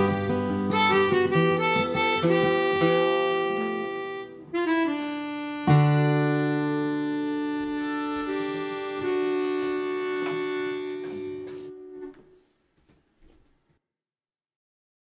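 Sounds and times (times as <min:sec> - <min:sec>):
melodica chord: 0:00.0 - 0:12.4.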